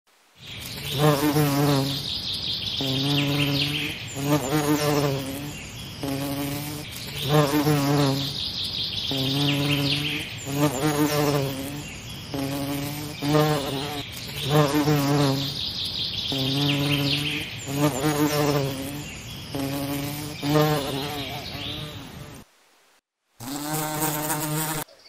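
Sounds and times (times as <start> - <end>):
flying insects buzzing: 0.4 - 22.5, 23.4 - 24.9.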